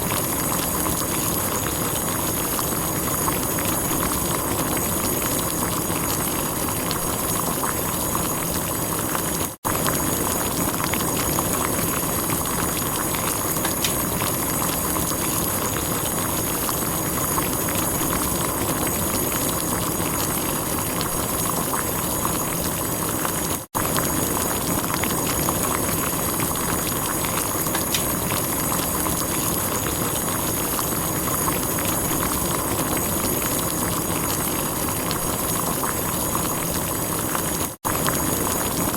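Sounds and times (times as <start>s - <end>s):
water boiling and bubbling: 0.0s - 38.9s.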